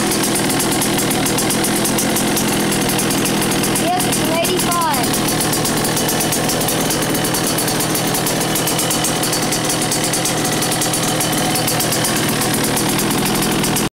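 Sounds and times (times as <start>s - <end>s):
two-stroke motorcycle idling: 0.0s - 13.9s.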